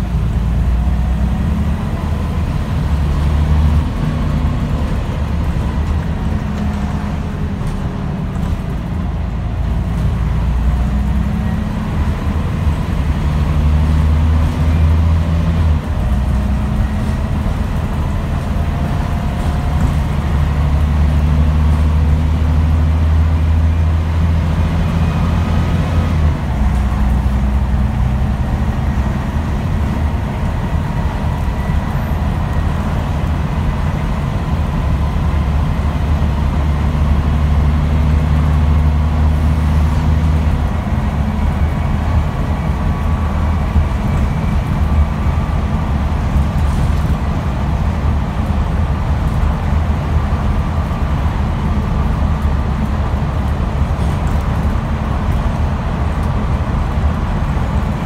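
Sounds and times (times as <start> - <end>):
bus diesel engine under load: 0.0 - 58.0
drivetrain whine: 0.0 - 58.0.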